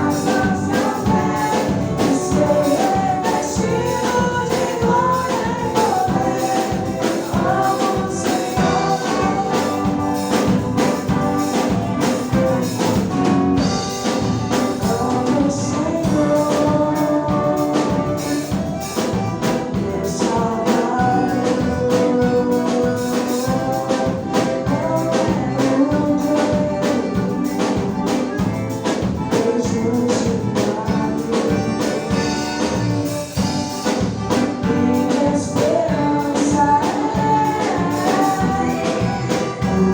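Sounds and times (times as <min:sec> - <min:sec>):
band playing gospel music: 0:00.0 - 0:39.9.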